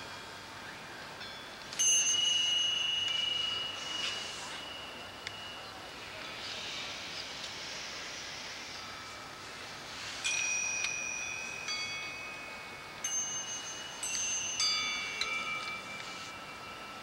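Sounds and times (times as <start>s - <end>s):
faint steady hiss: 0.0s - 17.0s
metal chimes ringing: 0.0s - 17.0s.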